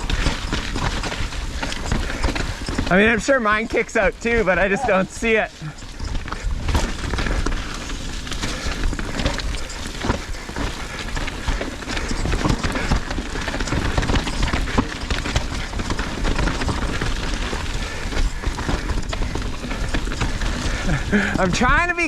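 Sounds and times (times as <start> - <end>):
bike knocking and rattling: 0.0 - 22.0
tyre and wind rush: 0.0 - 22.0.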